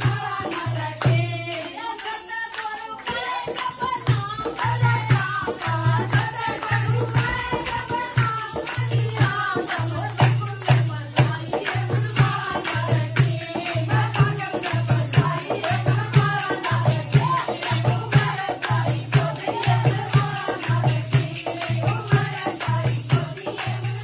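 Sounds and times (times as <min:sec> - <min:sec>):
hand clapping: 0:00.0 - 0:24.0
women singing together: 0:00.0 - 0:24.0
hand drum beat: 0:03.1 - 0:24.0.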